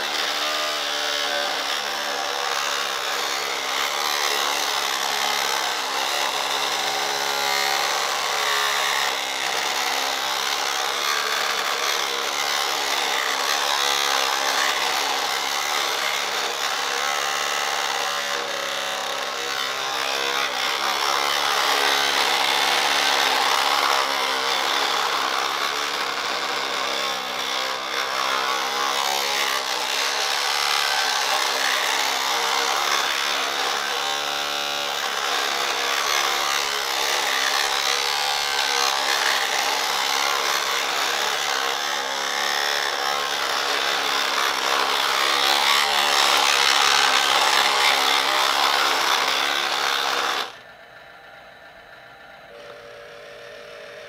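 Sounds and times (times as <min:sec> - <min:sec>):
toy electric motor whining: 0:00.0 - 0:50.8, 0:52.4 - 0:54.0.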